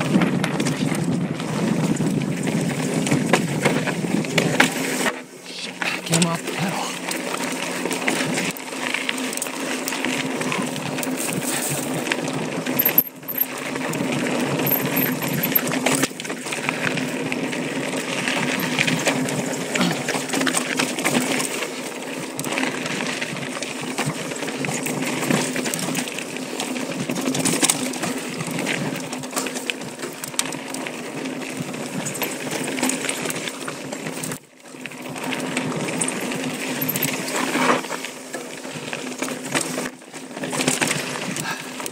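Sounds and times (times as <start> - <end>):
bike chain and frame clatter: 0.0 - 41.9
bike tyres crunching on dirt: 0.0 - 41.9.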